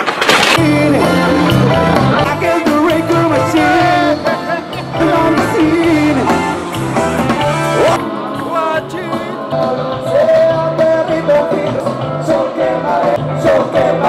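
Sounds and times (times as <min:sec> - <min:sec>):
backing instruments: 0:00.5 - 0:14.0
bass line: 0:00.6 - 0:14.0
person singing a melody: 0:00.6 - 0:14.0.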